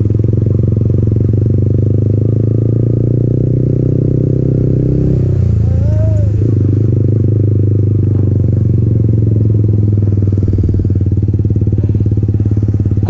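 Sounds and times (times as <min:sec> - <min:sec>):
motorcycle engine exhaust pulse: 0:00.0 - 0:13.0.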